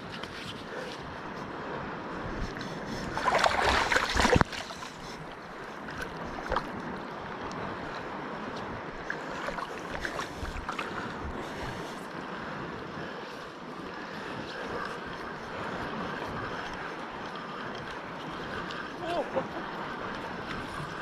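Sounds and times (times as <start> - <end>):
sea water lapping: 0.0 - 21.0
wind on microphone: 0.0 - 21.0.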